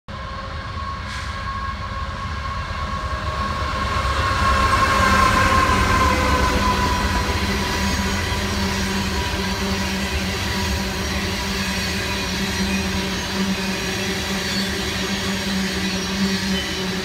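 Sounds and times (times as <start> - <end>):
diesel locomotive rumble and whine: 0.1 - 17.0.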